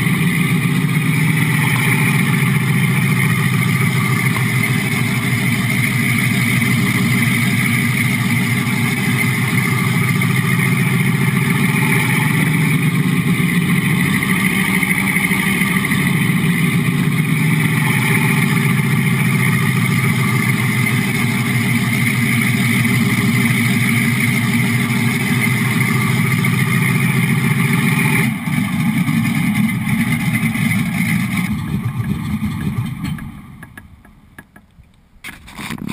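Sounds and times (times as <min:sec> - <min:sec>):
simulated tank engine from speaker: 0:00.0 - 0:33.5.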